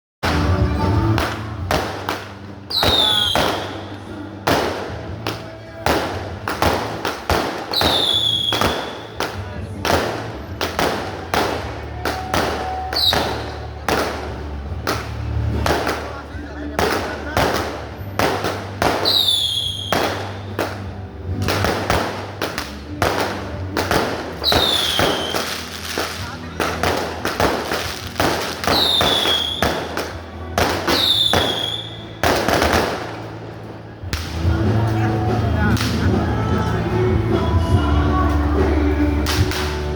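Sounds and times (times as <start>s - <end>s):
fireworks banging: 0.2s - 36.8s, 38.4s - 39.9s.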